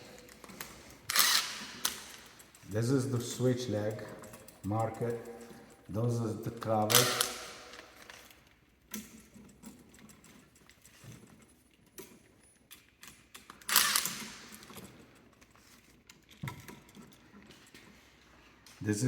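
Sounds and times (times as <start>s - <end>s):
small clicks and rustles: 0.0s - 18.9s.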